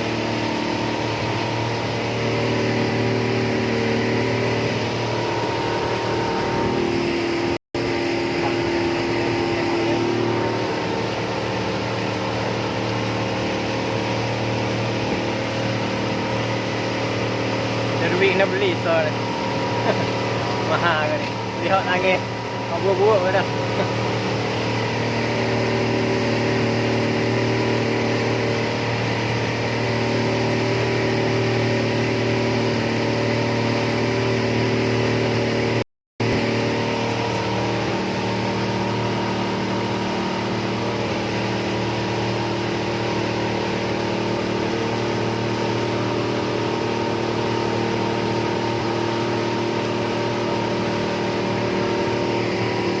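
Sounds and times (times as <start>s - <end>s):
water rushing: 0.0s - 35.0s, 36.2s - 53.0s
boat engine running: 0.0s - 53.0s
wind: 0.0s - 53.0s.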